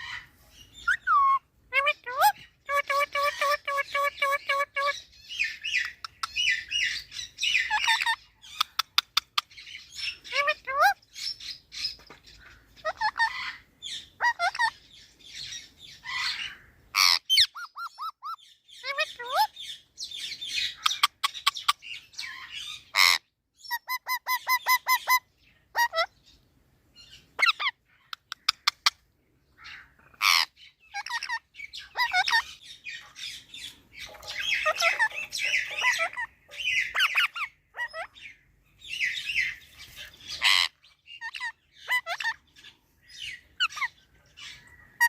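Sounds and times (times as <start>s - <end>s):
parrot squawking and chattering: 0.0s - 26.3s, 27.0s - 45.0s.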